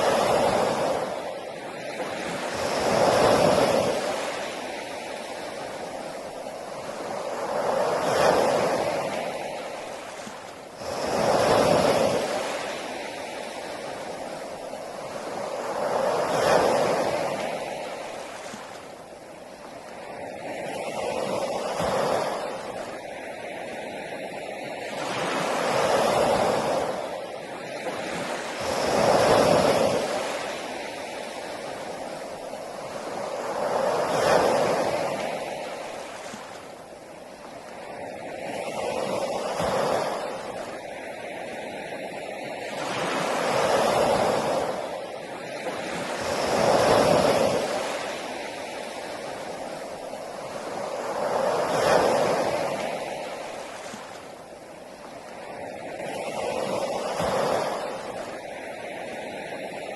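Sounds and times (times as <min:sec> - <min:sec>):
sea waves breaking on beach: 0:00.0 - 0:59.9.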